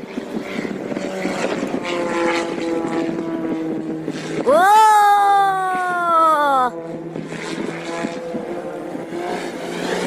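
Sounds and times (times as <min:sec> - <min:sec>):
wind noise: 0:00.0 - 0:09.4
propeller aircraft engine droning: 0:00.0 - 0:10.0.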